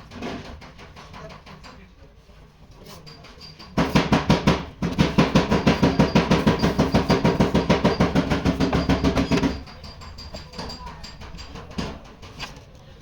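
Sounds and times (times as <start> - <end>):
rapid hammering on sheet metal: 0.0 - 1.9, 3.1 - 12.6.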